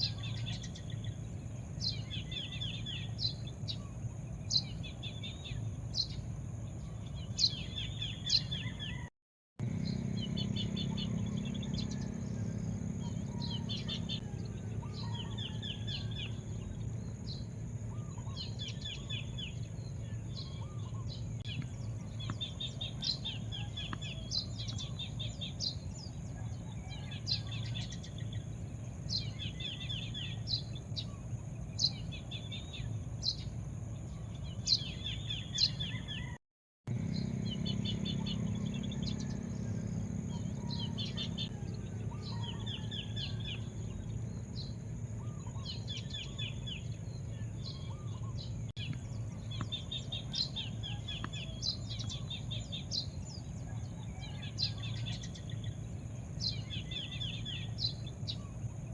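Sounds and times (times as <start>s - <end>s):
birds chirping: 0.0s - 58.9s
low steady rumble: 9.6s - 36.2s, 36.9s - 58.9s.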